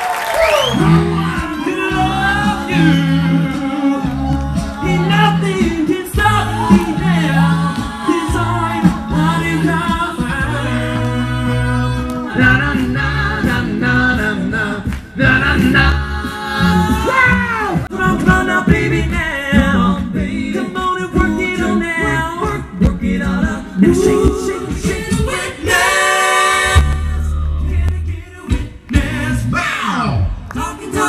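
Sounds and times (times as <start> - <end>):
vocal beat: 0.5 - 31.0
men singing a cappella: 0.6 - 29.6, 30.6 - 31.0.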